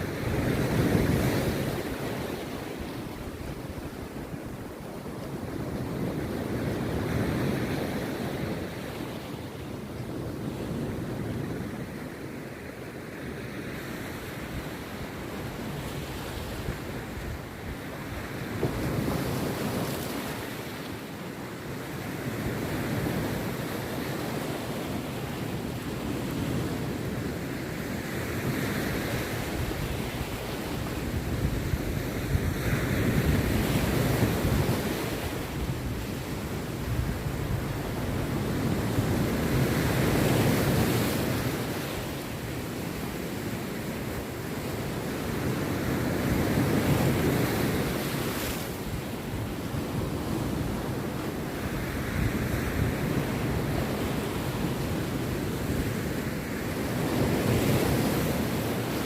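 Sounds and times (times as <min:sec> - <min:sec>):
sea waves breaking on beach: 0:00.0 - 0:59.0.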